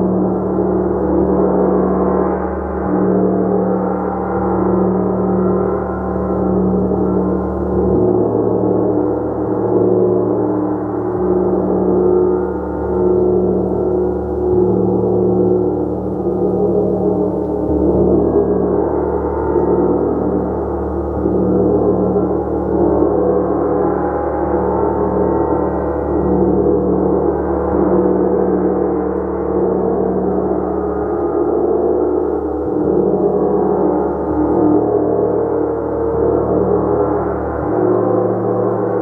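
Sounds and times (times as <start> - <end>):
gong: 0.0 - 39.0.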